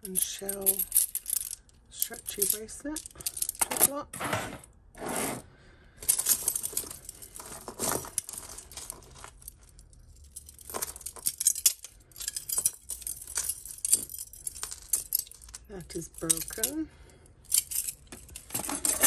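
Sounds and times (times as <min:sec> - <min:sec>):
jewellery clinking and jangling: 0:00.0 - 0:04.0, 0:06.0 - 0:19.0.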